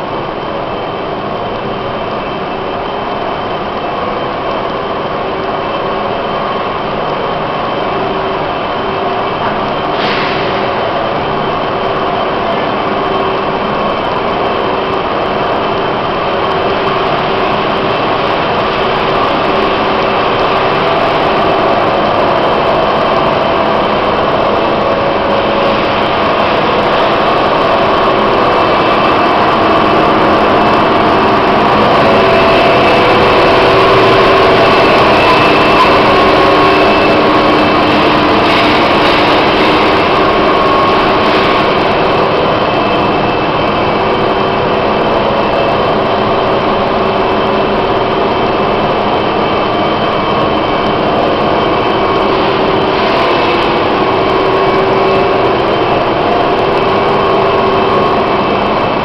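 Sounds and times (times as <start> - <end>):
industrial machinery drone: 0.0 - 59.0.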